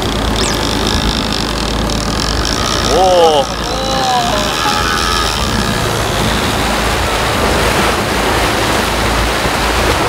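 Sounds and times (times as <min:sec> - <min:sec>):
low steady rumble: 0:00.0 - 0:10.0
water rushing in boat wake: 0:00.0 - 0:10.0.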